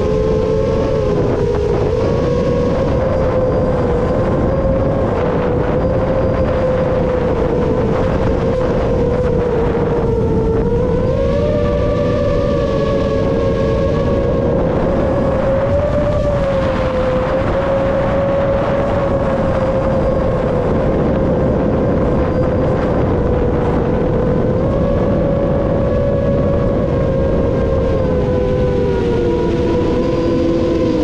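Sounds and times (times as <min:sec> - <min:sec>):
drone motors whining: 0:00.0 - 0:31.0
wind rush: 0:00.0 - 0:31.0.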